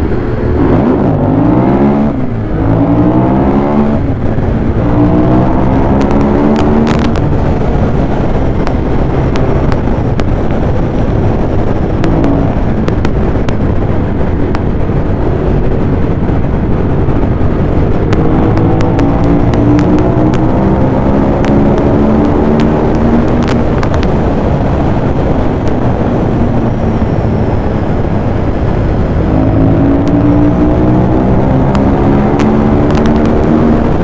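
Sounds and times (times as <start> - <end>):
motorcycle engine accelerating: 0.0 - 34.0
wind noise on microphone: 0.0 - 34.0.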